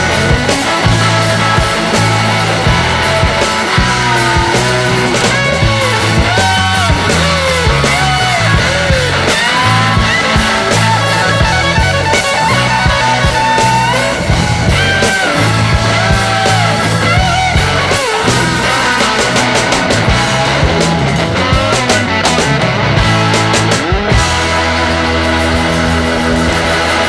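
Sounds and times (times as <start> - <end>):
rock music with electric guitar: 0.0 - 27.0.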